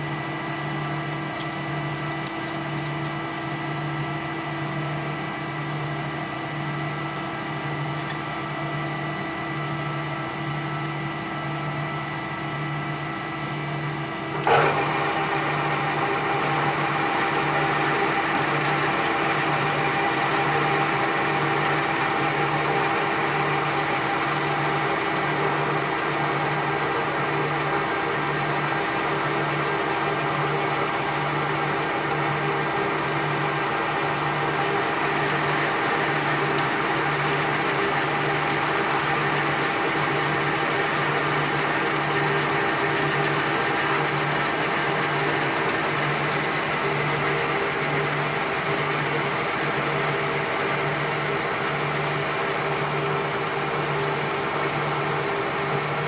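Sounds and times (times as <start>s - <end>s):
machine humming with pulses: 0.0s - 56.0s.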